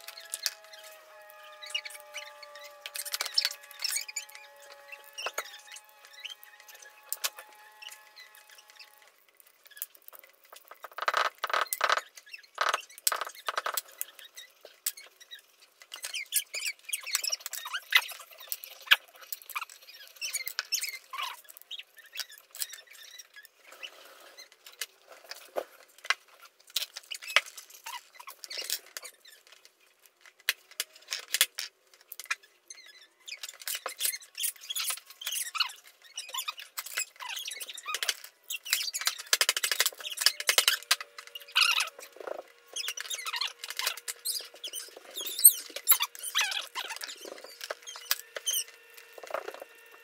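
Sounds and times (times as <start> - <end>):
plastic parts and screws clicking: 0.0 - 50.0.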